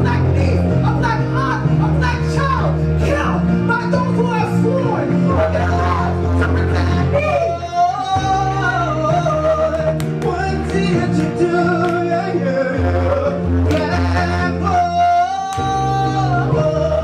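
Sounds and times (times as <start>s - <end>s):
held bass notes: 0.0s - 17.0s.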